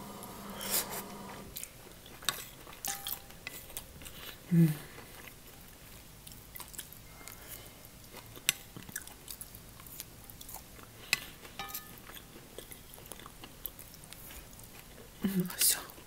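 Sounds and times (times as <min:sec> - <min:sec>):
person chewing: 0:01.5 - 0:16.0.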